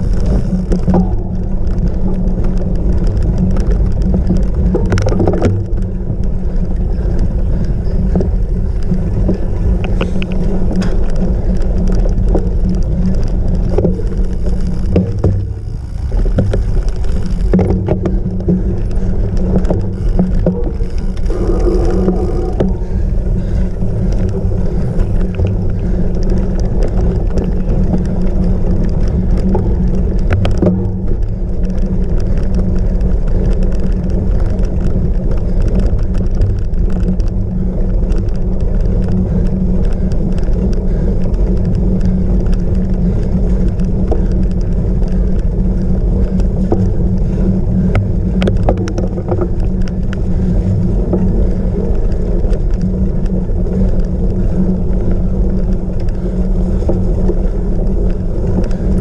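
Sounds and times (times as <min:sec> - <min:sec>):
bike rattling: 0:00.0 - 0:59.0
tyre rumble: 0:00.0 - 0:59.0
wind rushing on microphone: 0:00.0 - 0:59.0.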